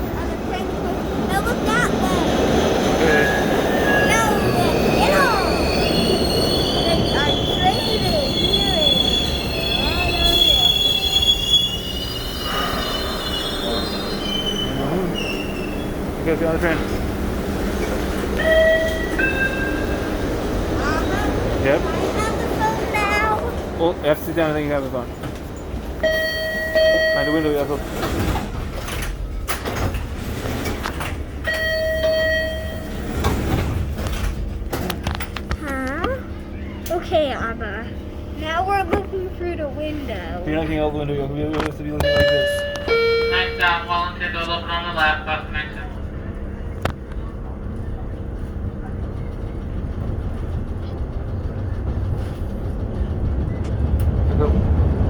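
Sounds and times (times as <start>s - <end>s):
train low rumble: 0.0s - 55.0s
subway train brakes squealing: 1.7s - 34.9s, 41.6s - 54.5s.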